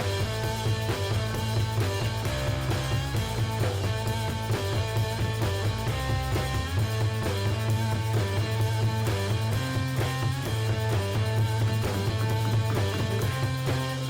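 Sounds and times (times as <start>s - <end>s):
guitar rock instrumental: 0.0s - 14.0s.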